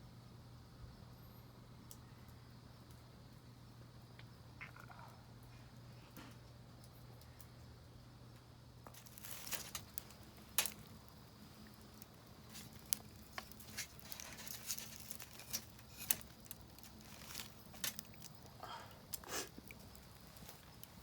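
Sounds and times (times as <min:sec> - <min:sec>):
wood fire crackling and popping: 0:01.8 - 0:21.0.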